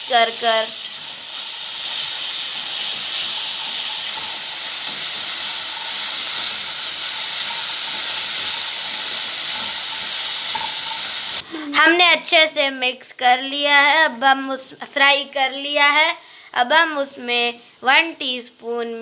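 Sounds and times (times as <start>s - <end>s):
peas sizzling in oil: 0.0s - 19.0s.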